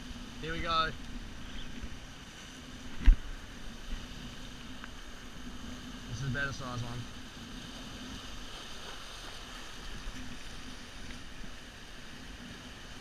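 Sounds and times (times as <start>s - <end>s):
sea surf washing over rocks: 0.0s - 13.0s.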